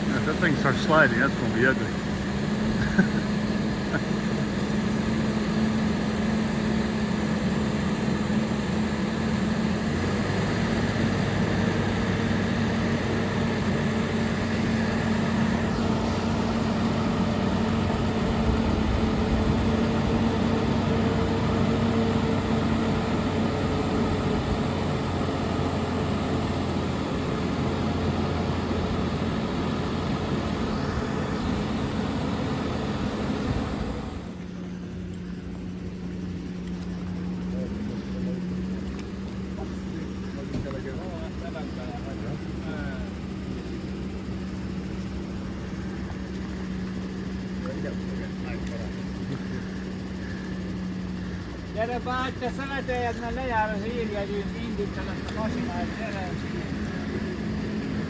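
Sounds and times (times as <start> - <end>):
crane engine running under load: 0.0 - 58.0.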